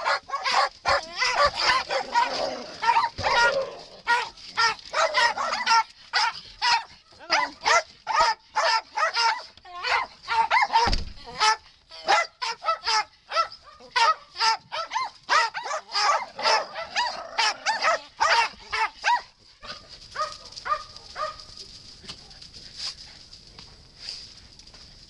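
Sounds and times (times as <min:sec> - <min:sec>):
dogs barking and yipping: 0:00.0 - 0:23.4.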